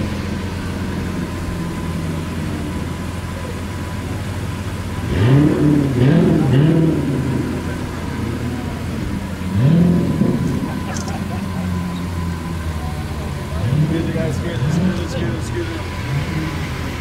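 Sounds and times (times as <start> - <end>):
sports car engine idling and revving: 0.0 - 17.0.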